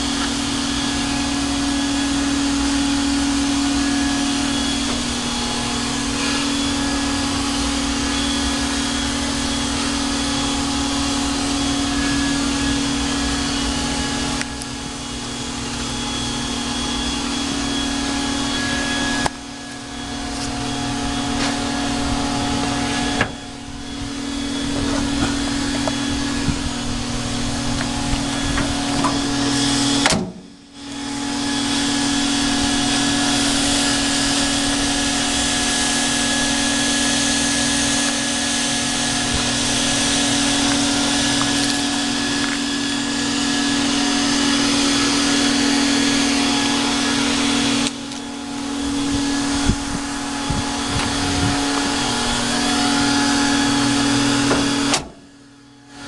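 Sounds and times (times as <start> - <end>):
motor drone: 0.0 - 56.0.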